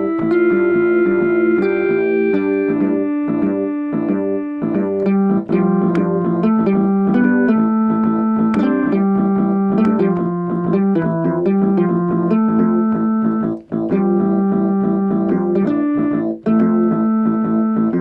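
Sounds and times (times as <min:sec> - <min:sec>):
electronic keyboard melody: 0:00.0 - 0:18.0.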